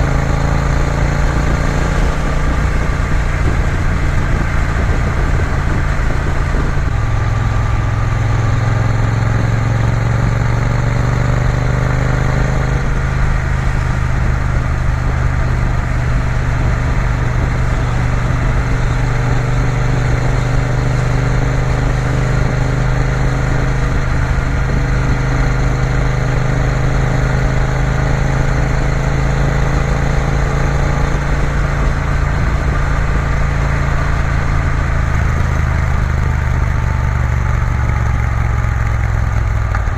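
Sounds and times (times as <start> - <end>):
motorcycle engine droning: 0.0 - 39.9
road and wind rush: 0.0 - 39.9.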